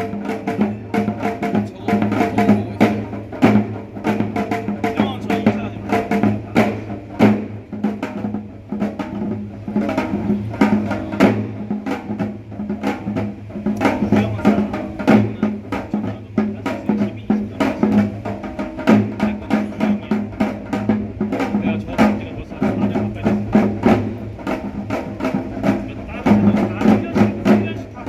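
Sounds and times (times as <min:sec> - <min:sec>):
percussion ensemble drums and gongs: 0:00.0 - 0:28.0.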